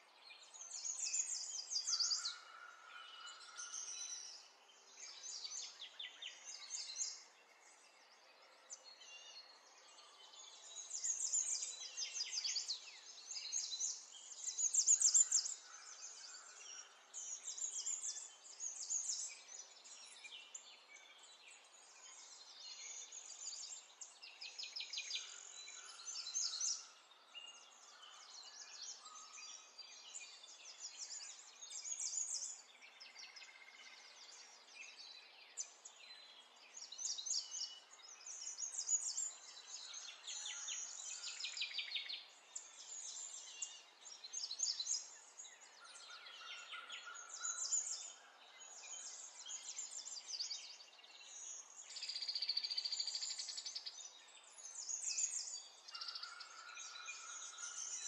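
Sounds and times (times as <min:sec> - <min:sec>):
faint outdoor hiss: 0:00.0 - 0:56.7
small birds chirping: 0:00.0 - 0:58.0.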